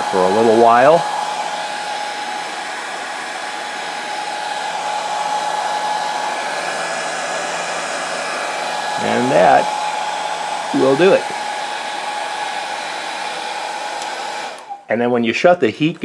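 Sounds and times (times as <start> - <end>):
heat gun blowing air: 0.0 - 14.9.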